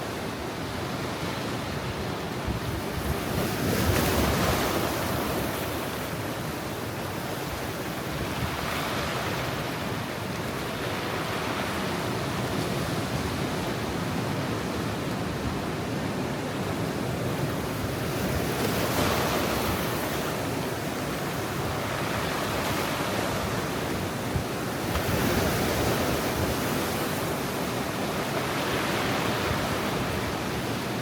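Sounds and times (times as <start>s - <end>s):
waves breaking: 0.0s - 31.0s.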